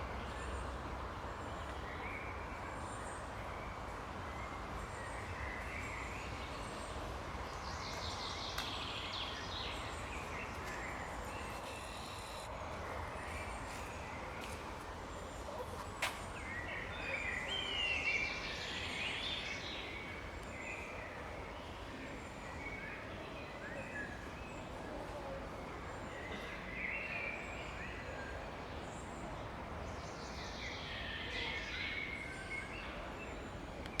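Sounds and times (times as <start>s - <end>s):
songbirds chirping: 0.1s - 34.0s.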